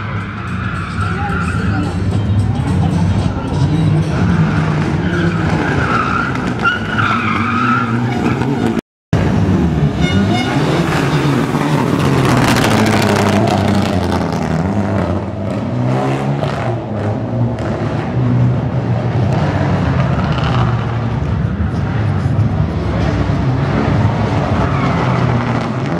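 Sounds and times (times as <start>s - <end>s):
rally car engines revving: 0.0s - 25.9s.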